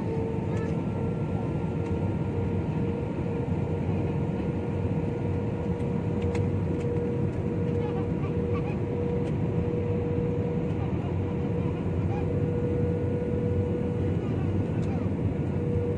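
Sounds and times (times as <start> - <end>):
jet engine low rumble: 0.0 - 15.9
steady engine whine: 0.0 - 15.9.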